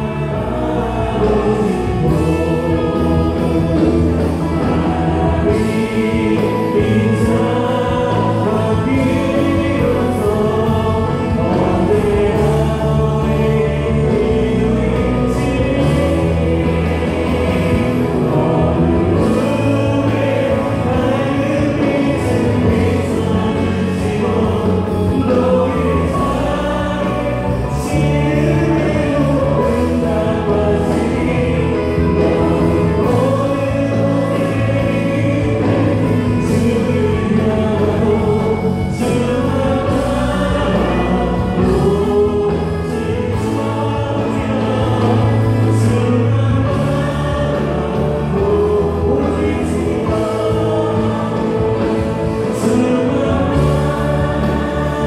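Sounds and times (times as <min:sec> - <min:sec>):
drums: 0:00.0 - 0:55.0
electric bass: 0:00.0 - 0:55.0
group of voices singing: 0:00.0 - 0:55.0
keyboard: 0:00.0 - 0:55.0.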